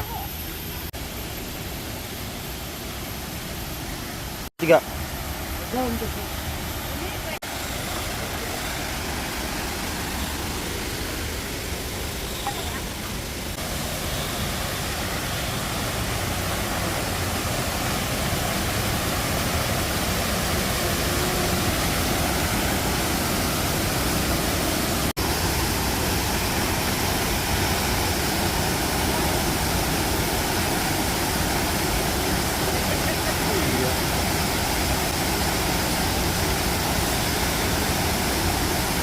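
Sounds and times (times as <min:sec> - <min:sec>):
waterfall roar: 0:00.0 - 0:39.0.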